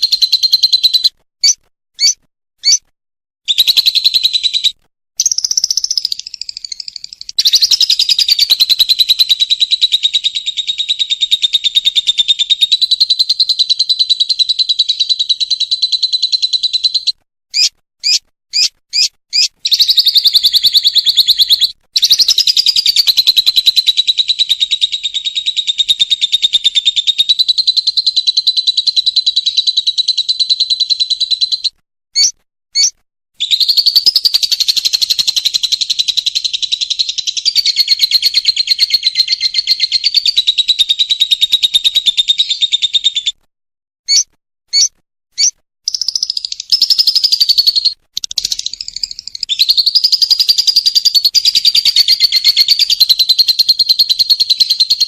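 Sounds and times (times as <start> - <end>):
bird chattering trills: 0.0 - 2.9, 3.5 - 43.4, 44.1 - 55.0
bird chirps: 0.0 - 2.9, 3.5 - 43.4, 44.1 - 55.0.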